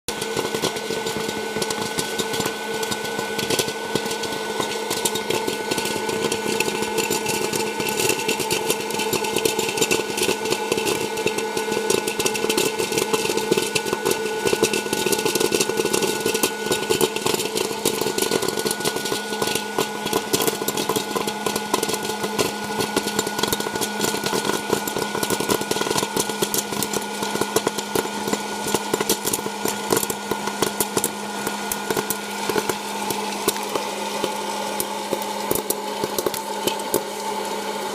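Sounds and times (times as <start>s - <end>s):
popcorn kernels popping: 0.1s - 37.9s
popcorn maker fan hum: 0.1s - 37.9s.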